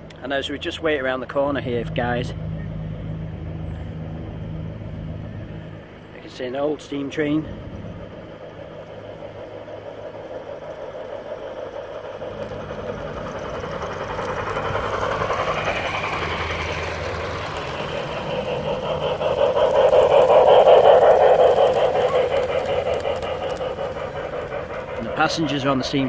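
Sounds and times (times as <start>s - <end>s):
model steam train running: 0.0s - 26.0s.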